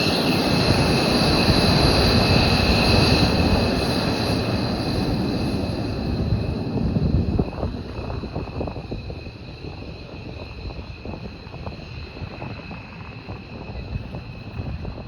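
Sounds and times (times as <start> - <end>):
high-pitched jet whine: 0.0 - 15.0
jet engines roaring: 0.0 - 15.0.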